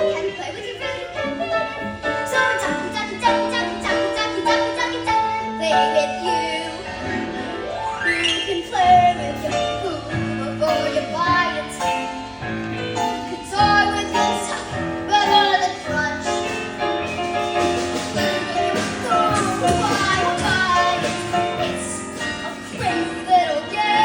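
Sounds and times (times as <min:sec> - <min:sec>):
young woman singing: 0:00.0 - 0:07.0, 0:08.4 - 0:12.3, 0:13.0 - 0:16.6, 0:18.5 - 0:24.0
instrumental accompaniment: 0:00.0 - 0:24.0.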